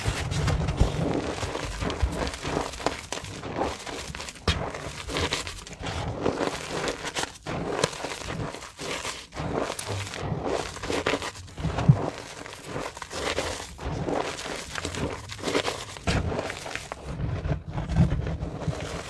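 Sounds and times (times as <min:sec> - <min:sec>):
chalk crunching and crumbling: 0:00.0 - 0:19.0.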